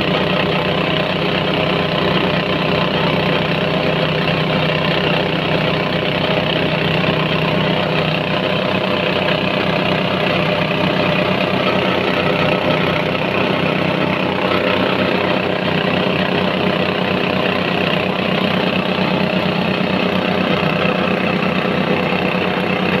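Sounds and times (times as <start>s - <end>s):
grinding machine humming: 0.0s - 23.0s.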